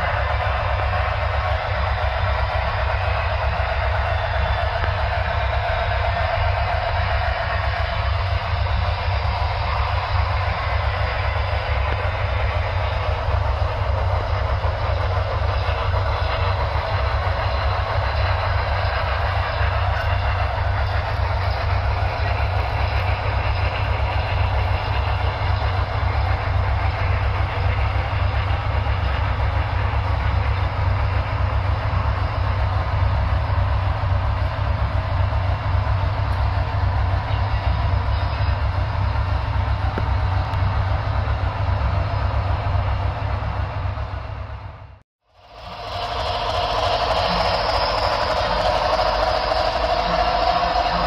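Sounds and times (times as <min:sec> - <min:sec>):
model trains rumbling and whirring: 0:00.0 - 0:51.0.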